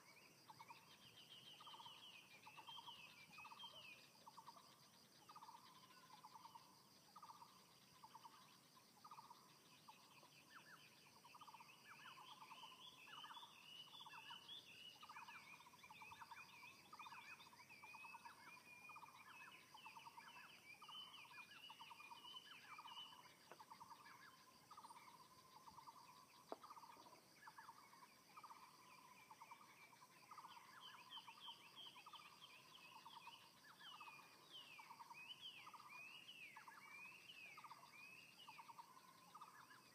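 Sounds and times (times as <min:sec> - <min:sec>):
birds twittering high chirps: 0:00.0 - 0:39.9.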